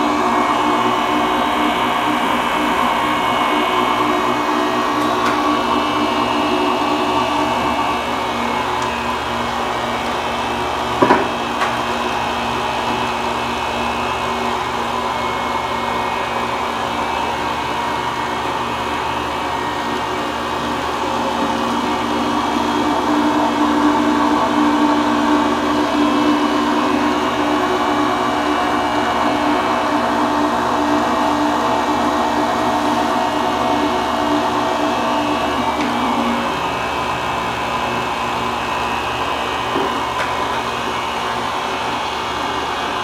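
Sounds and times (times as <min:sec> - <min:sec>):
electric grinder grinding fish: 0:00.0 - 0:15.0, 0:15.7 - 0:42.8.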